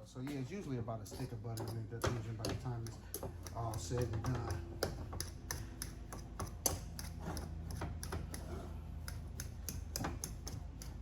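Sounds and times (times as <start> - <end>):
fork clicking against a pot: 1.2 - 11.0.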